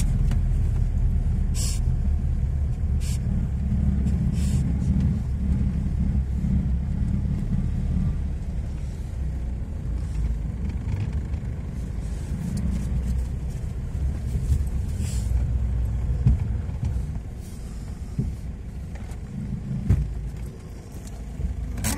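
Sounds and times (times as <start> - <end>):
car rumbling over rough track: 0.0 - 21.9.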